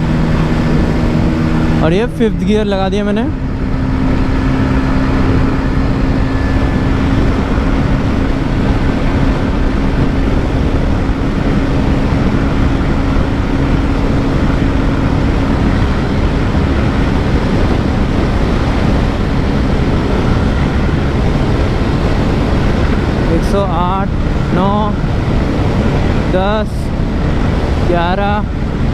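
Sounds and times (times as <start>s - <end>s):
motorcycle engine running: 0.0s - 28.9s
wind noise: 0.0s - 28.9s.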